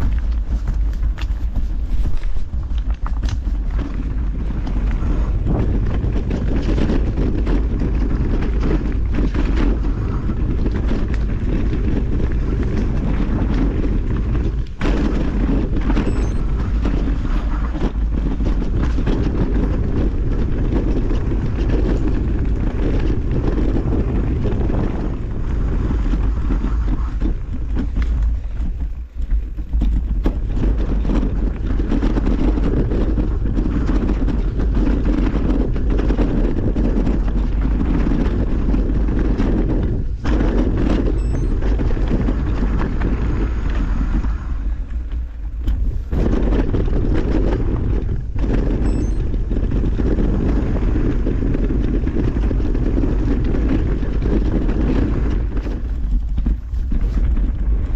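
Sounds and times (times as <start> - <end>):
bike rattling and knocking: 0.0 - 57.9
wind rushing over microphone: 0.0 - 57.9.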